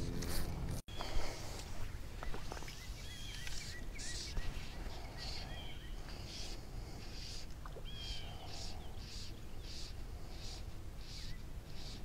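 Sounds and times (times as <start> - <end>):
small birds chirping: 0.9 - 12.0.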